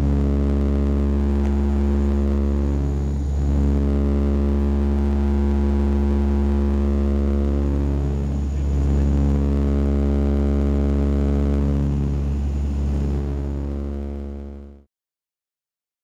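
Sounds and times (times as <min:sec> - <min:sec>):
turboprop cabin drone: 0:00.0 - 0:14.9.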